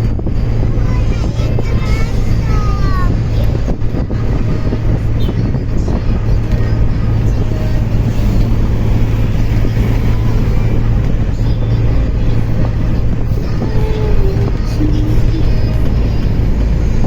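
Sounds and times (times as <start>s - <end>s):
road rumble: 0.0s - 17.0s
vehicle engine hum: 0.0s - 17.0s.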